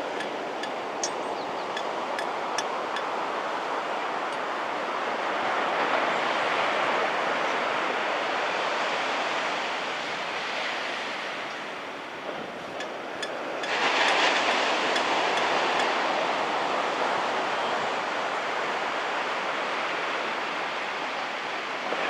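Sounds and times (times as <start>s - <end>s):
waves washing onto beach: 0.0s - 22.0s.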